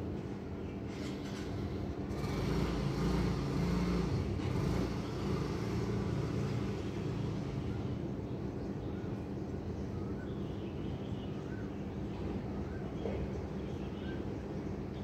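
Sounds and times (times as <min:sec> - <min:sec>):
low hum of engines: 0:00.0 - 0:15.0.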